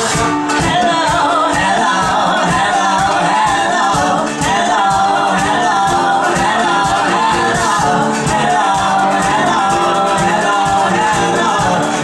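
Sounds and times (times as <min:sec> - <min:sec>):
drums keeping a beat: 0:00.0 - 0:12.0
strummed ukulele: 0:00.0 - 0:12.0
man and woman singing: 0:00.1 - 0:12.0.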